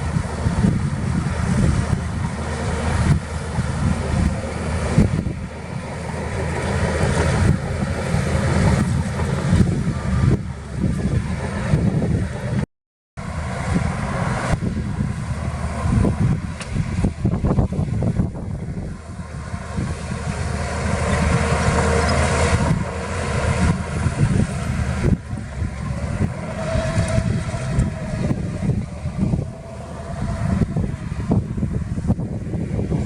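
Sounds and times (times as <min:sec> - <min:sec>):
heavy diesel machinery rumbling: 0:00.0 - 0:33.0.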